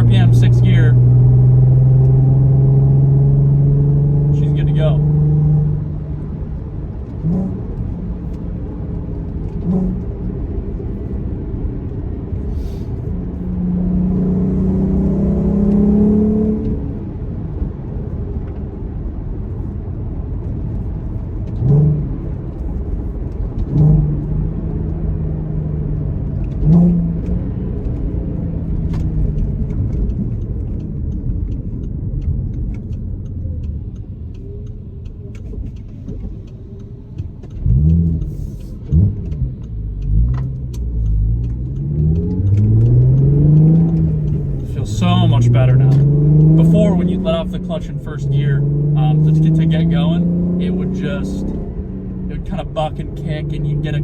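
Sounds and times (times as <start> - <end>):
car engine pulling at low revs: 0.0 - 54.0
road rumble: 0.0 - 54.0.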